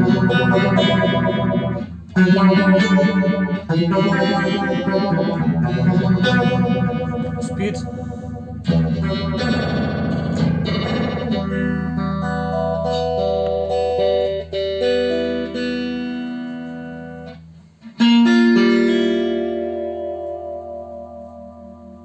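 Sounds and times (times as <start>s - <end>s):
guitar with phaser effect: 0.0s - 22.0s.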